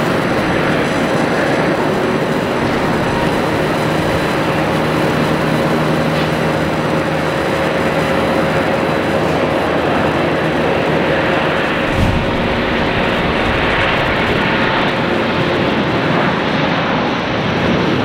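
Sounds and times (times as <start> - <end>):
jet engine whining tones: 0.0 - 17.2
jet engines roaring: 0.0 - 18.0.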